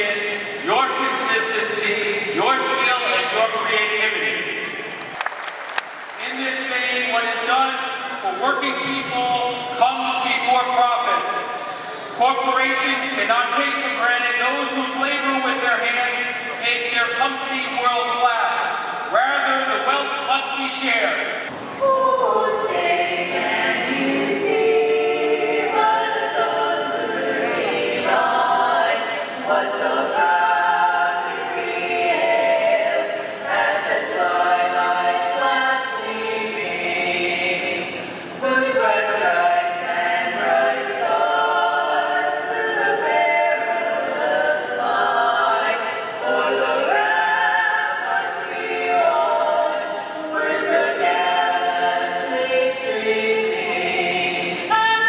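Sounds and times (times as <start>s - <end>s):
choir singing a cappella: 0.0s - 4.5s, 6.3s - 55.0s.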